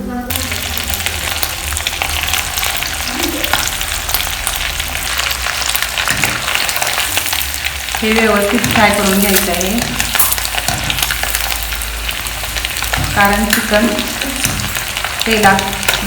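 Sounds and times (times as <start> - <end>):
chicken deep-frying in hot oil: 0.3 - 16.0.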